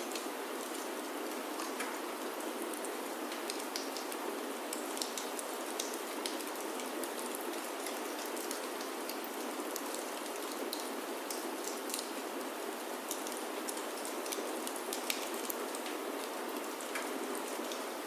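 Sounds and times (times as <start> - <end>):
rain on a wooden roof: 0.0 - 18.0.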